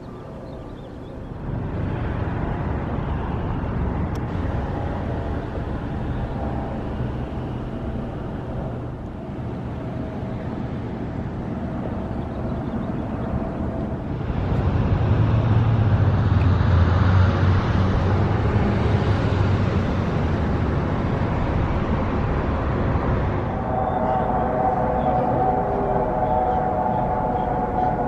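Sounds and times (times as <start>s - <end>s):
road traffic rumble: 0.0s - 28.0s
louder vehicle passing: 1.2s - 28.0s.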